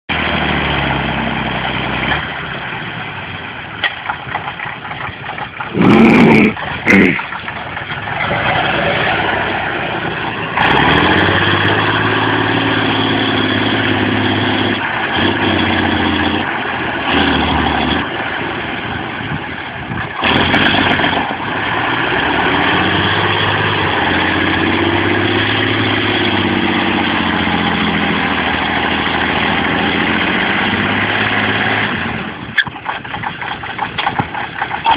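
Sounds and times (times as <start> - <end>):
diesel truck engine running: 0.1 - 34.9.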